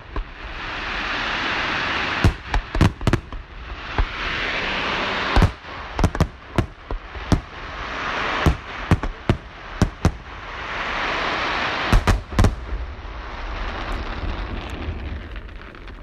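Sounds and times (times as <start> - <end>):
crackling hiss of fireworks: 0.0 - 16.0.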